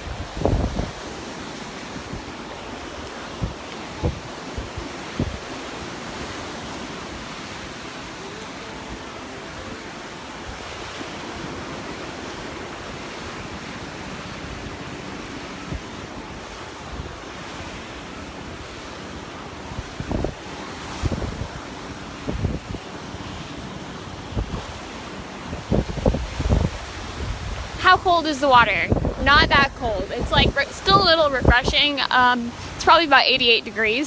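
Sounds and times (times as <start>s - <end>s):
surf washing onto beach: 0.0s - 34.0s
wind rumbling on microphone: 0.0s - 34.0s.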